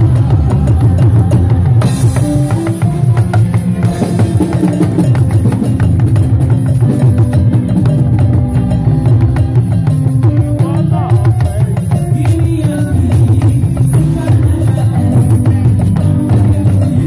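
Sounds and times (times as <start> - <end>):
backing music with bass and drums: 0.0 - 17.0.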